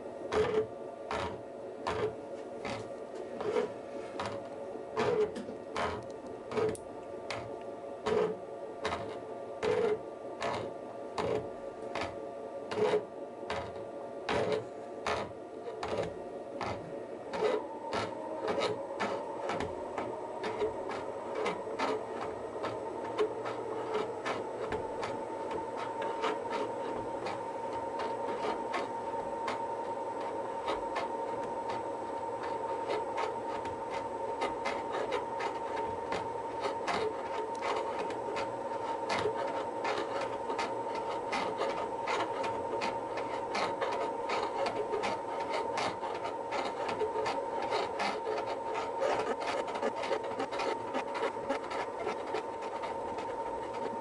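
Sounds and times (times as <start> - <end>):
machine whine: 0.0 - 54.0.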